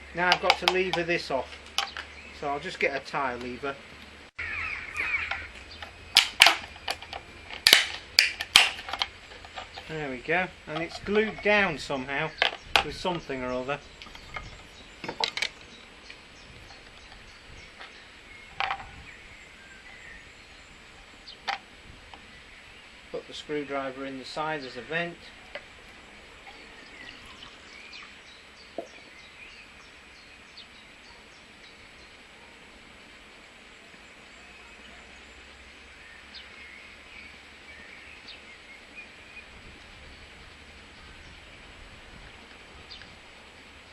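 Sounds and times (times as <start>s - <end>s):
outdoor ambience hiss and rumble: 0.0s - 43.9s
small birds chirping: 0.0s - 43.9s.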